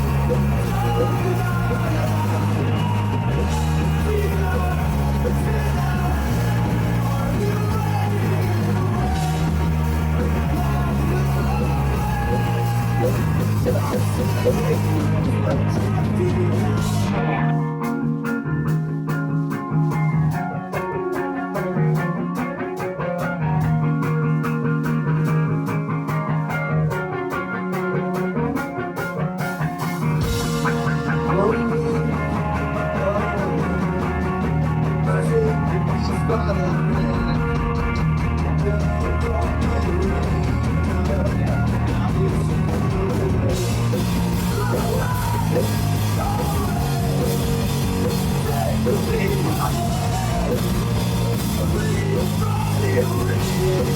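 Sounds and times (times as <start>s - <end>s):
bass and drums: 0.0s - 53.9s
guitar lead: 0.0s - 53.9s.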